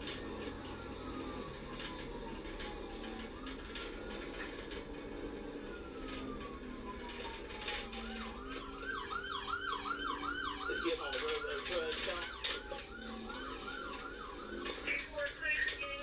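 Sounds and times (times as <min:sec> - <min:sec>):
police siren wailing and yelping: 0:00.0 - 0:16.0
road noise: 0:00.0 - 0:16.0.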